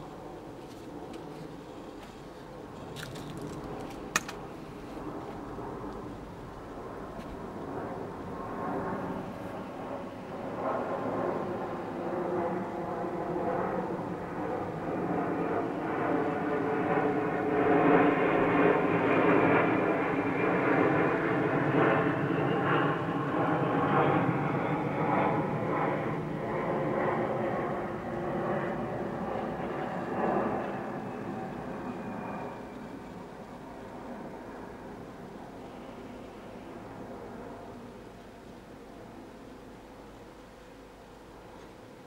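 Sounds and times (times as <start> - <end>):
airplane passing overhead: 0.0 - 42.0.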